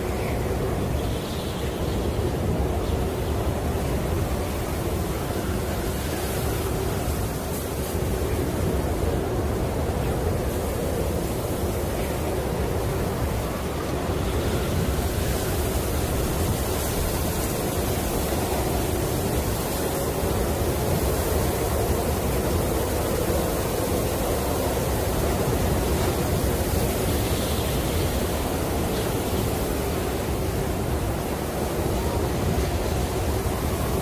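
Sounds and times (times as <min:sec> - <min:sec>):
snowstorm wind blowing: 0:00.0 - 0:34.0.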